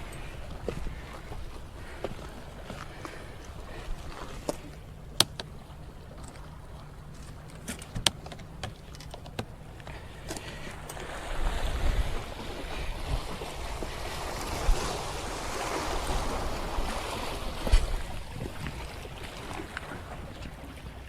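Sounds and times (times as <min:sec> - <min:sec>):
sea waves on rocky shore: 0:00.0 - 0:21.0.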